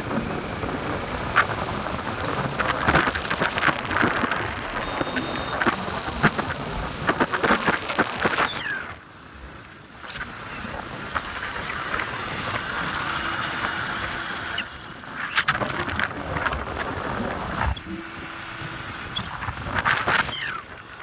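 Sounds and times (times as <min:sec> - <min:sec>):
wind rushing over microphone: 0:00.0 - 0:09.0, 0:09.9 - 0:21.0
motorcycle road noise: 0:00.0 - 0:21.0.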